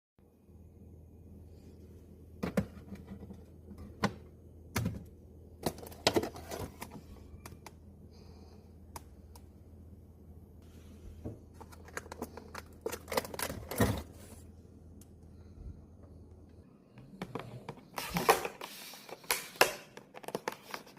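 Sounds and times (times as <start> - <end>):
steady low hum: 0.2 - 18.0.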